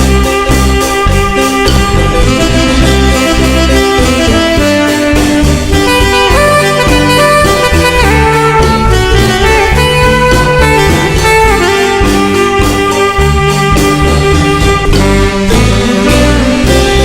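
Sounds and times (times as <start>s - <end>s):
marimba band dance music: 0.0s - 17.0s.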